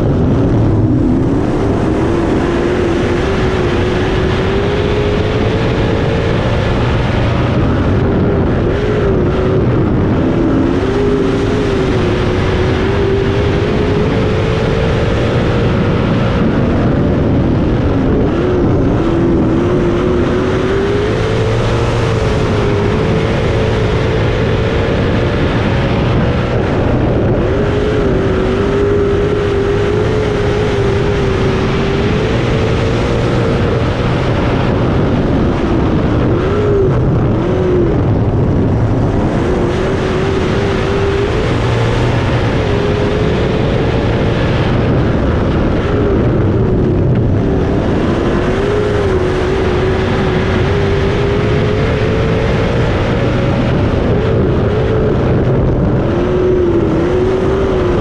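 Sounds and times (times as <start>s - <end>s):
racing car engine: 0.0s - 58.0s
wind and track rumble: 0.0s - 58.0s.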